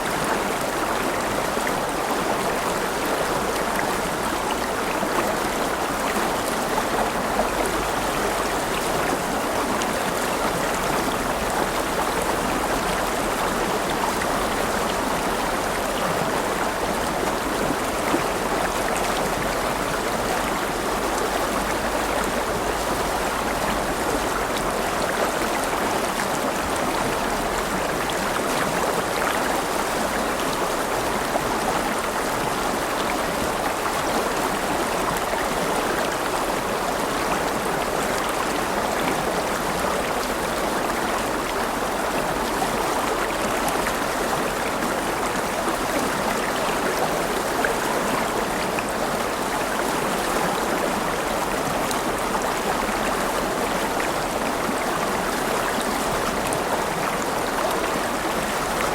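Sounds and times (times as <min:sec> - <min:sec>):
river water babbling over stones: 0:00.0 - 0:58.9.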